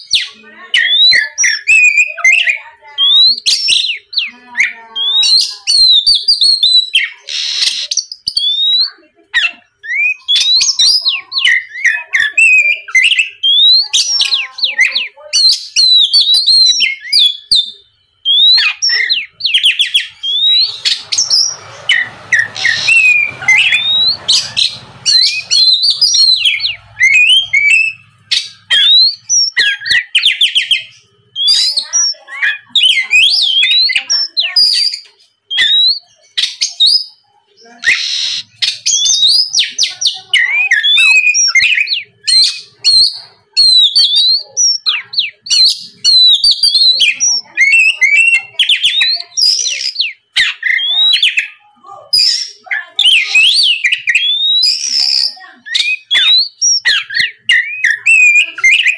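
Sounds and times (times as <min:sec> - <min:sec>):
bird singing whistles and chatter: 0:00.0 - 0:58.9.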